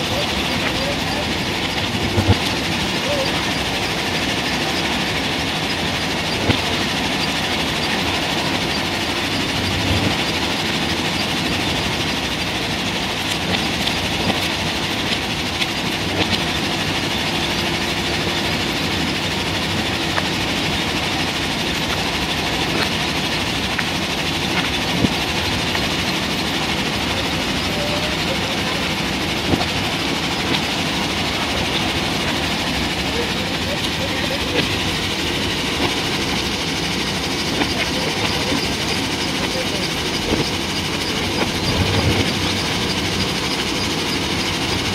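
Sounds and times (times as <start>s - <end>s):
diesel engine running: 0.0s - 44.9s
sharp clicks and knocks: 0.2s - 3.6s, 4.2s - 27.7s, 28.8s - 44.9s.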